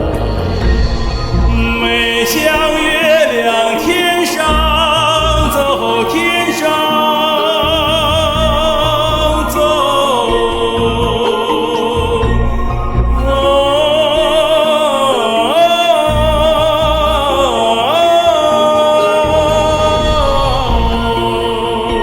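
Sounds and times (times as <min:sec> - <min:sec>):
instrumental accompaniment: 0:00.0 - 0:22.0
person singing with vibrato: 0:00.0 - 0:22.0.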